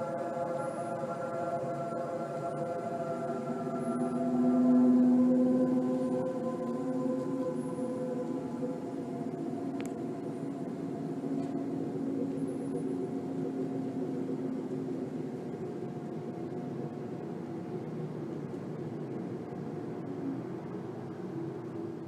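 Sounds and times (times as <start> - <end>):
low drone of held tones: 0.0 - 21.2.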